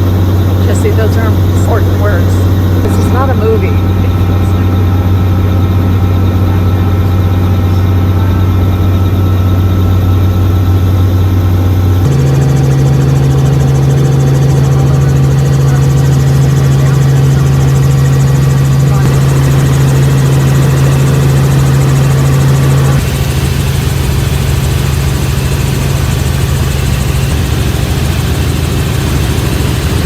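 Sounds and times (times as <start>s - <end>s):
helicopter engine and rotor drone: 0.0s - 30.0s.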